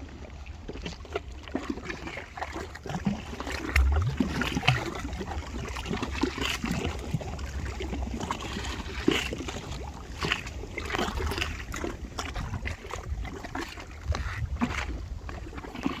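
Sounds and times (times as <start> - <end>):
river water splashing: 0.0 - 16.0
wind rumble on microphone: 1.8 - 16.0.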